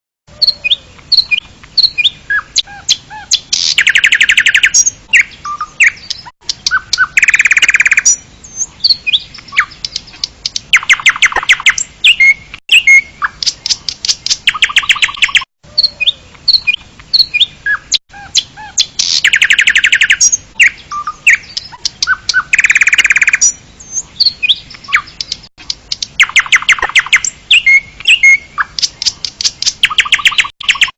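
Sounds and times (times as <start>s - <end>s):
birds chirping: 0.3s - 30.9s
fast rattling bird trills: 0.5s - 8.2s, 10.7s - 23.6s, 25.9s - 30.9s.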